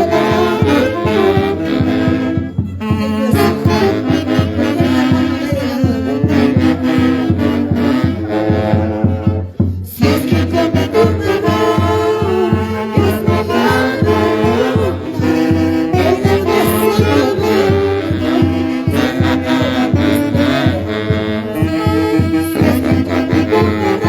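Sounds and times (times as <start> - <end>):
live band with wind instruments: 0.0 - 24.0.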